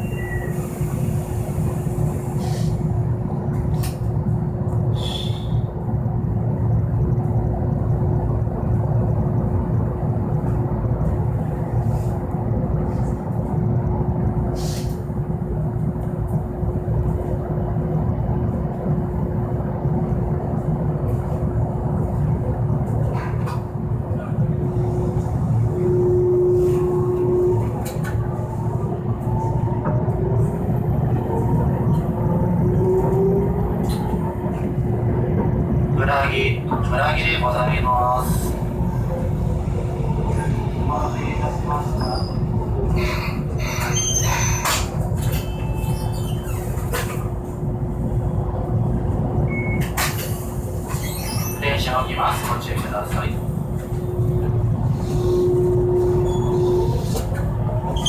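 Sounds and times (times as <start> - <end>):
tram wheels rumbling: 0.0 - 58.0
constant equipment hum: 0.8 - 58.0.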